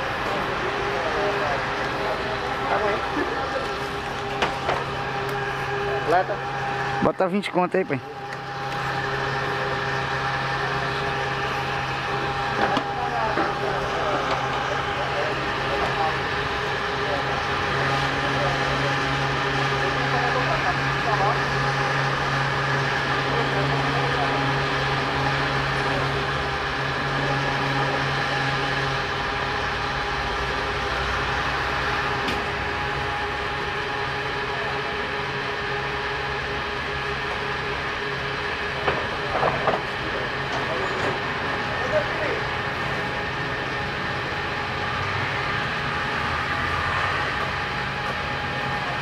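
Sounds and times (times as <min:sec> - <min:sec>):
mechanical hum: 0:00.0 - 0:49.0.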